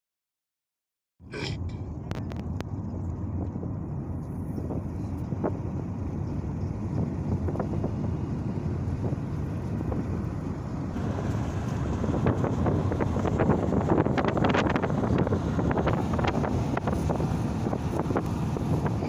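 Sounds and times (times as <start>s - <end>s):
car interior rumble: 1.3s - 19.0s.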